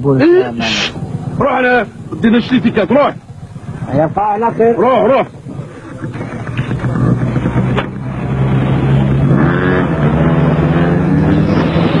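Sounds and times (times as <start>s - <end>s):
scooter engine running: 1.0s - 12.0s.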